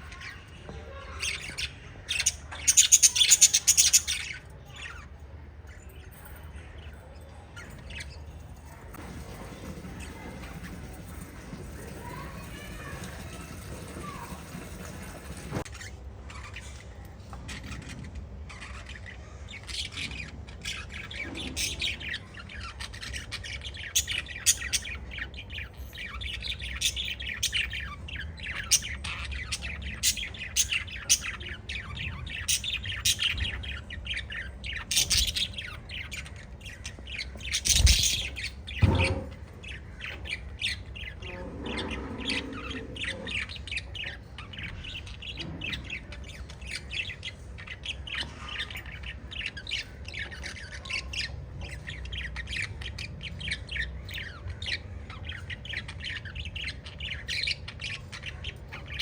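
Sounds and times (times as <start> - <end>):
budgerigars chirping and squawking: 0.0 - 59.0.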